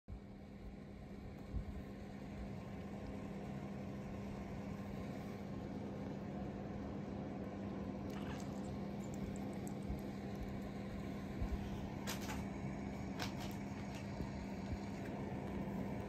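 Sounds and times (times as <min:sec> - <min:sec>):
low machine hum: 0:00.1 - 0:16.0.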